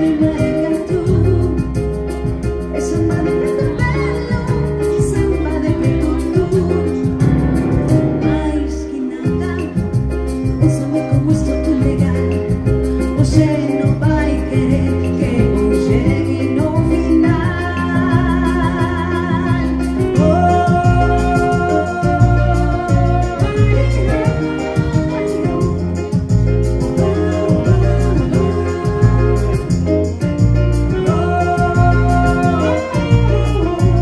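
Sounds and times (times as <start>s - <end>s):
pulsing bass line: 0.0s - 8.7s, 9.8s - 34.0s
keyboard accompaniment: 0.0s - 34.0s
woman singing: 0.0s - 34.0s.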